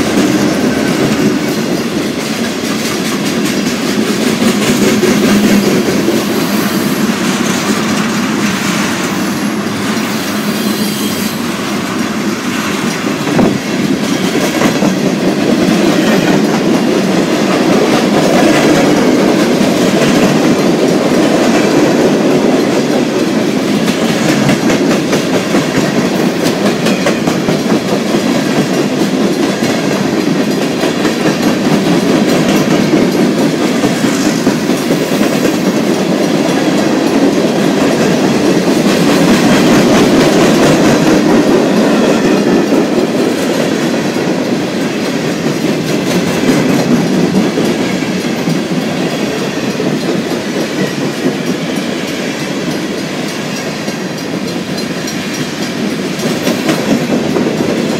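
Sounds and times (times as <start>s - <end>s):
wheels clicking over rail joints: 0.0s - 10.1s, 12.6s - 57.9s
freight train rolling past: 0.0s - 57.9s.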